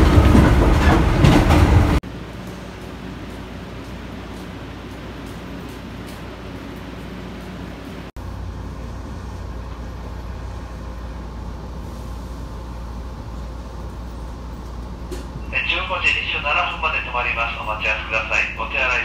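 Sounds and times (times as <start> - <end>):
train rumbling and humming: 0.0 - 19.0.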